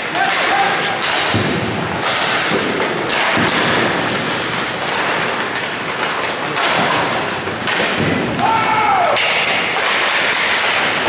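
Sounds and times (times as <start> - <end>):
skates scraping on ice: 0.0 - 11.0.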